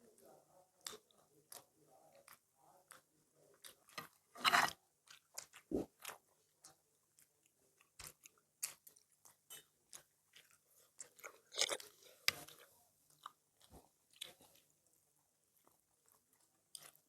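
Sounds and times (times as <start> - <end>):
chewing and crunchy bites: 0.8 - 14.8, 15.6 - 17.0.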